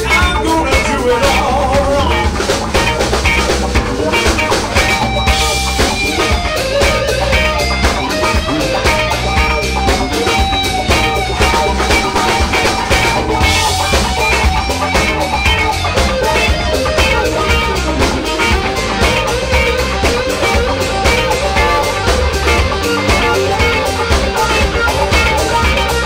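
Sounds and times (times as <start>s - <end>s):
blues-rock band playing: 0.0s - 26.0s
lead guitar bending notes: 0.0s - 26.0s.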